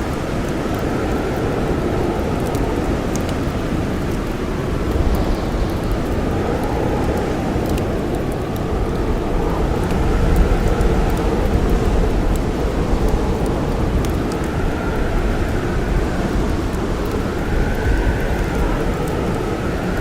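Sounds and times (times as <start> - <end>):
blizzard wind blowing: 0.0 - 20.0
faint campfire crackles: 0.0 - 20.0.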